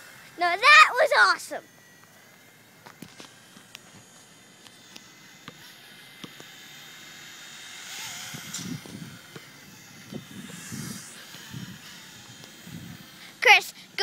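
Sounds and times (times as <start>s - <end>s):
toy helicopter motor whine: 0.0s - 14.0s.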